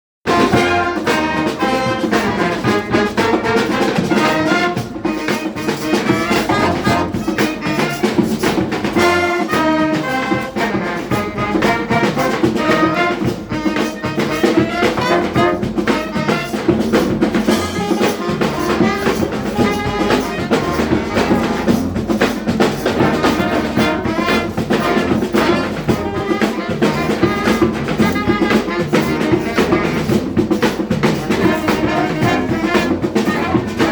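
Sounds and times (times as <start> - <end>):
brass instrumental music with beat: 0.2 - 33.9.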